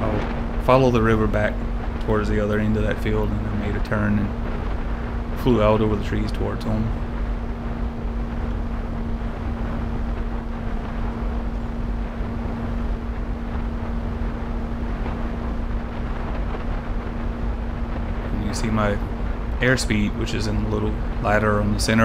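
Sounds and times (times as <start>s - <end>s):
electric motor and propeller hum: 0.0s - 22.0s
wind rushing over microphone: 0.0s - 22.0s.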